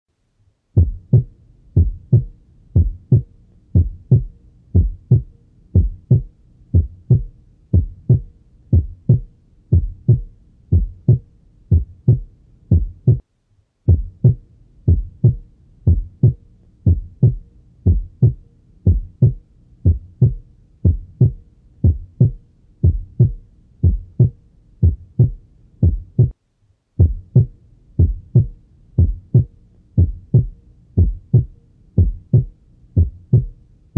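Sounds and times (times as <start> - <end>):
heartbeat through stethoscope: 0.8 - 13.2, 13.9 - 26.4, 27.0 - 33.6.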